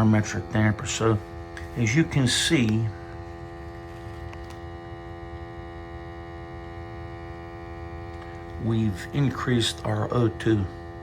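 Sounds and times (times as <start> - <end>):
steady hum with overtones: 0.0 - 11.0.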